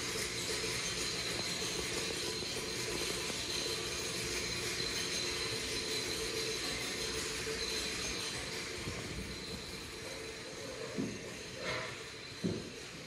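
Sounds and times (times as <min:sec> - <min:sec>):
high-pitched whine: 0:00.0 - 0:13.0
mechanical hum and hiss: 0:00.0 - 0:13.0.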